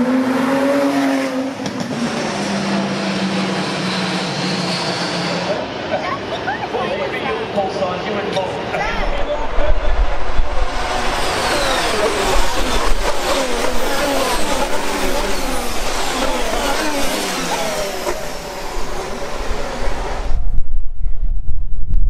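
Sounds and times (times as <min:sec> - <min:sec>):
racing cars passing by: 0:00.0 - 0:20.4.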